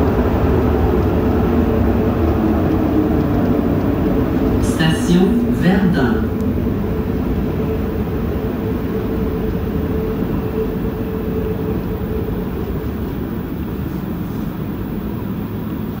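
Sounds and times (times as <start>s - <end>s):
steady hum: 0.0s - 16.0s
subway train rumbling through tunnel: 0.0s - 16.0s.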